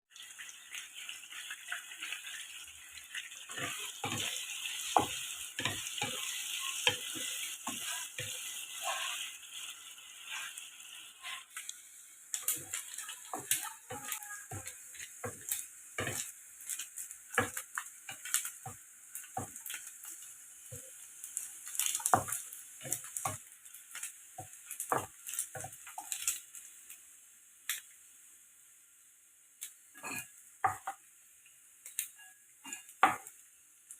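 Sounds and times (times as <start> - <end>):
food sizzling in a hot pan: 0.1 - 33.9.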